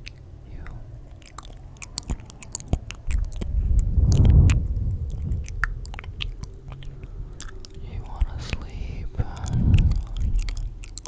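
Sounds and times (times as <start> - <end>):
low rumble: 0.0 - 11.0
wet mouth clicks: 0.0 - 11.0.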